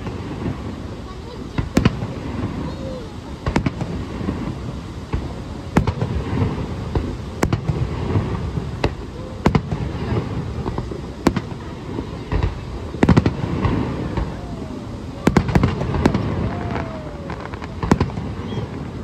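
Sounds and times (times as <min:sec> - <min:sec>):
firework shells bursting: 0:00.0 - 0:19.0.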